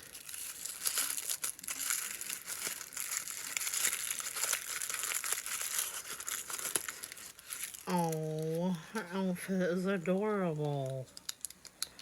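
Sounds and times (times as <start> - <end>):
packaging wrapper crinkling: 0.0 - 8.8, 10.7 - 12.0.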